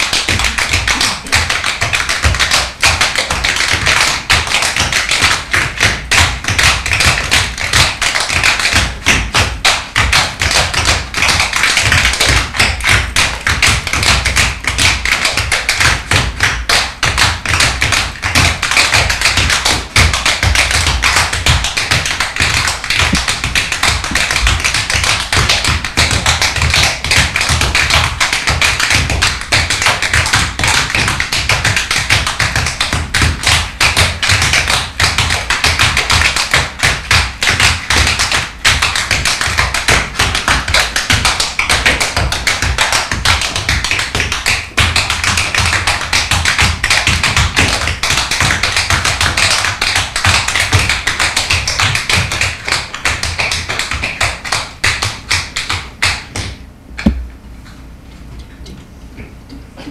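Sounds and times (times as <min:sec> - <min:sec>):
tap shoes striking stage floor: 0:00.0 - 0:57.3.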